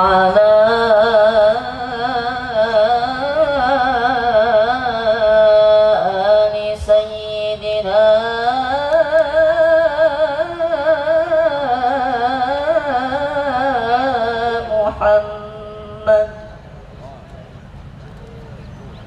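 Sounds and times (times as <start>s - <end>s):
man singing over a pa: 0.0s - 16.7s.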